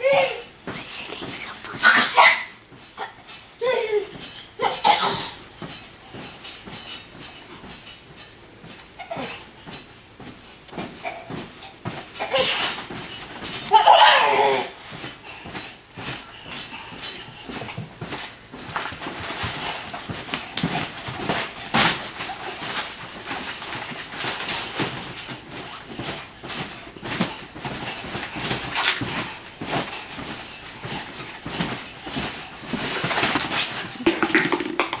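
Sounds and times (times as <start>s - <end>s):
trampoline thumps and rustles: 0.0s - 35.0s.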